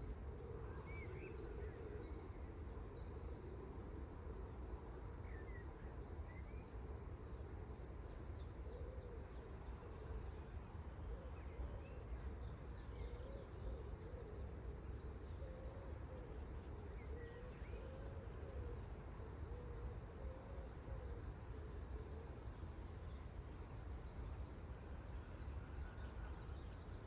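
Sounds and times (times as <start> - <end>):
faint wavering hum: 0.0 - 27.0.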